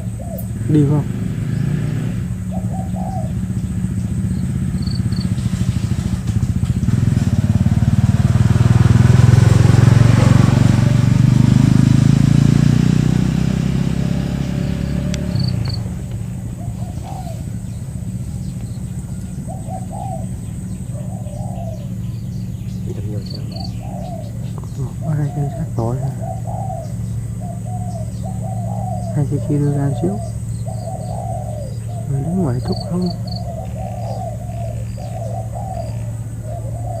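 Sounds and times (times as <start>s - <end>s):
doves cooing: 0.0s - 37.0s
low engine hum: 0.0s - 37.0s
motorcycle passing: 0.0s - 37.0s.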